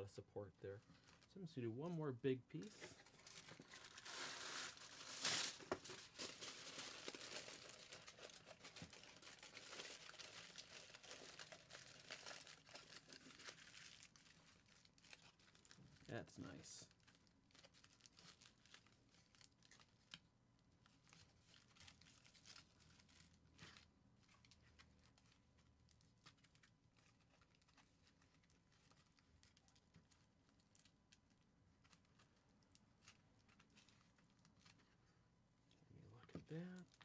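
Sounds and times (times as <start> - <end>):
aluminium foil crinkling: 0.8 - 1.3, 2.6 - 20.2, 20.8 - 35.1, 36.4 - 37.0.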